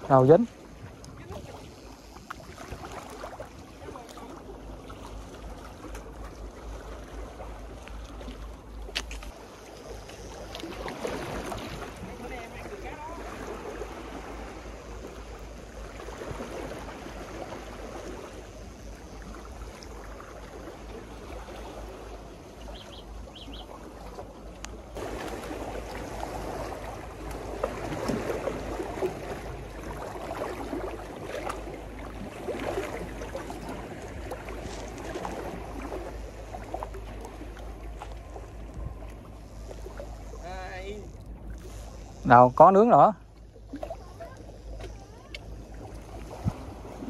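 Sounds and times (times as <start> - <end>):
sea water slapping against seawall: 0.0 - 18.4, 23.7 - 47.0.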